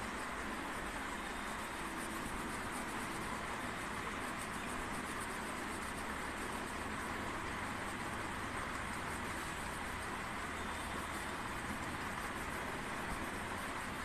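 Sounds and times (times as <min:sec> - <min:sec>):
background hiss: 0:00.0 - 0:14.0
crayon scratching on paper: 0:00.4 - 0:14.0.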